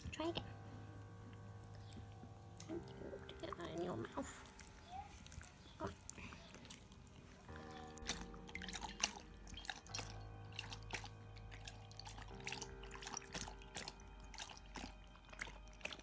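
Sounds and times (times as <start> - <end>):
dog lapping water: 2.6 - 16.0.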